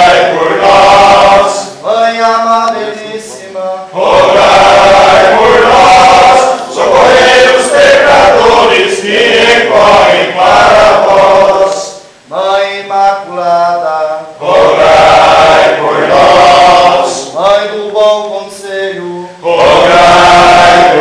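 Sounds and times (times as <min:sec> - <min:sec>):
men singing a chant: 0:00.0 - 0:21.0.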